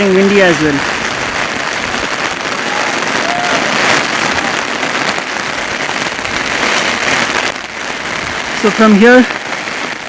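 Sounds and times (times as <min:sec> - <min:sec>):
heavy rain drumming on umbrella: 0:00.0 - 0:10.0.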